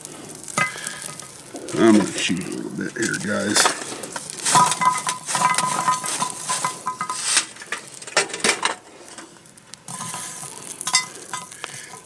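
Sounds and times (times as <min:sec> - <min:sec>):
charcoal clattering on metal lid: 0:00.4 - 0:01.8, 0:02.8 - 0:09.3, 0:09.9 - 0:12.0.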